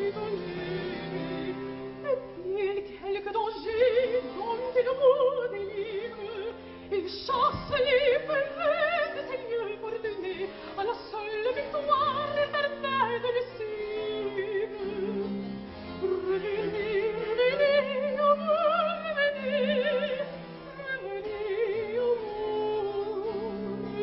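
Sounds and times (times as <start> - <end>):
soprano singing operatically: 0.0 - 15.4, 16.0 - 24.0
instrumental accompaniment: 0.0 - 24.0.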